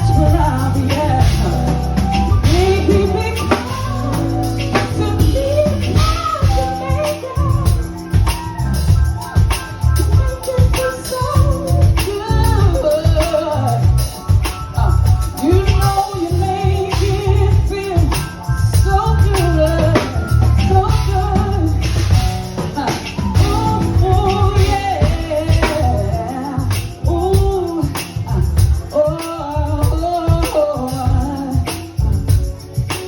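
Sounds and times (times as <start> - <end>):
live band playing: 0.0 - 33.0
woman singing: 0.0 - 33.0.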